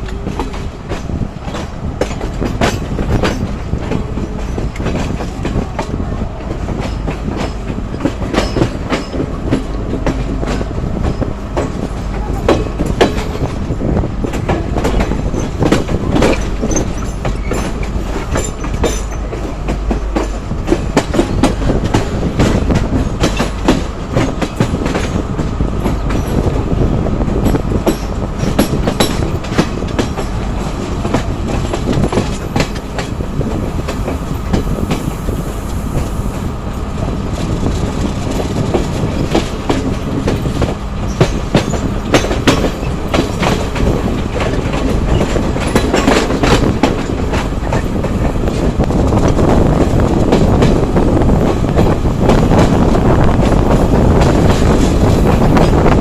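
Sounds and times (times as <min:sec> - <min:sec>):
wheels clacking over rail joints: 0:00.0 - 0:36.3, 0:37.0 - 0:56.0
train carriages rumbling: 0:00.0 - 0:56.0.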